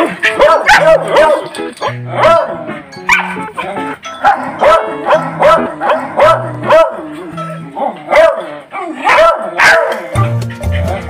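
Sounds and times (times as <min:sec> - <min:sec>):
dog barking eagerly: 0:00.0 - 0:07.1, 0:07.8 - 0:10.1
background music: 0:00.0 - 0:11.0.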